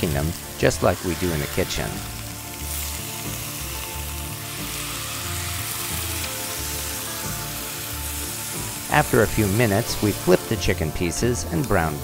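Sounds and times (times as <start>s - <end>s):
chicken sizzling in skillet: 0.0s - 12.0s.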